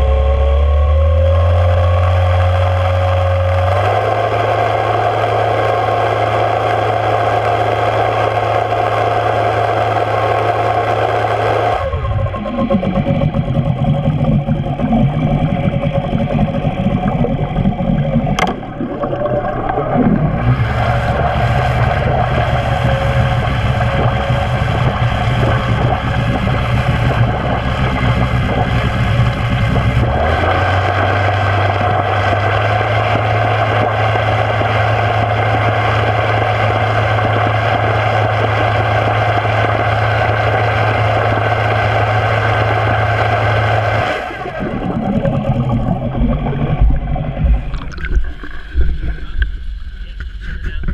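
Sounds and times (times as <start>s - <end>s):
outboard motor droning: 0.0s - 50.9s.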